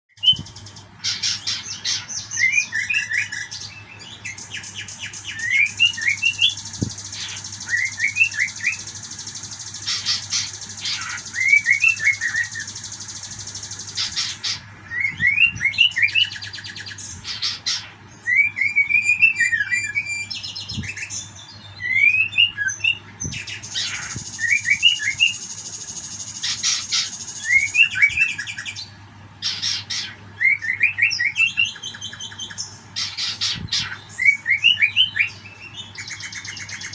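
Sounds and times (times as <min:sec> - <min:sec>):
songbird chirping and trilling: 0:00.1 - 0:36.9.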